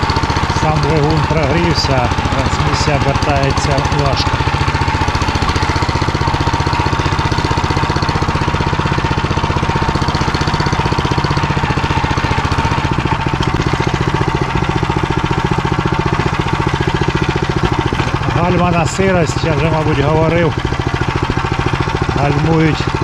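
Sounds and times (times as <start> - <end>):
small tractor engine running: 0.0 - 23.0.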